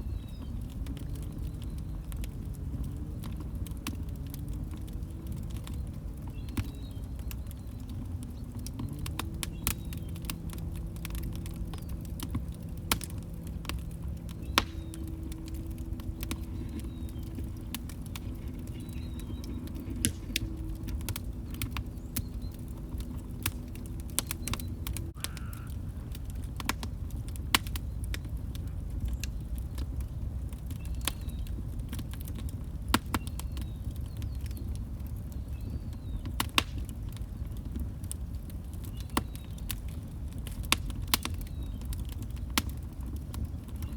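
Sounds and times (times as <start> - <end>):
low steady hum: 0.0 - 36.2
log fire crackling and popping: 0.0 - 43.9.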